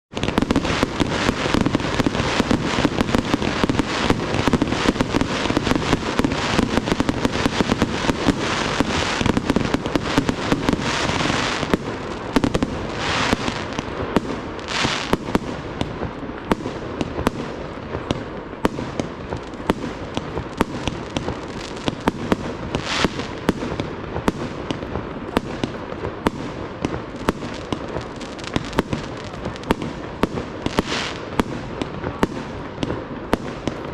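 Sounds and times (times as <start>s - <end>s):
fireworks bangs: 0.1s - 33.9s.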